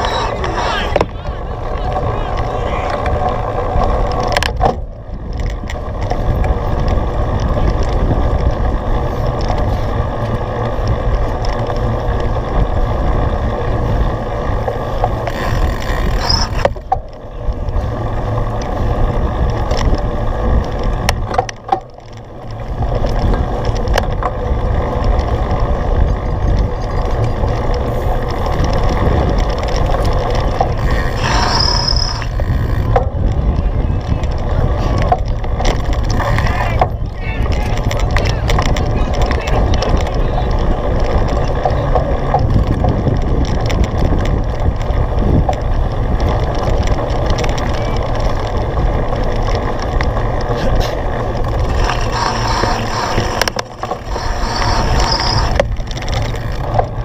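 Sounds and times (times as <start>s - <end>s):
bike tyres rumbling over mud: 0.0s - 57.0s
rattling bike drivetrain and frame: 0.0s - 57.0s.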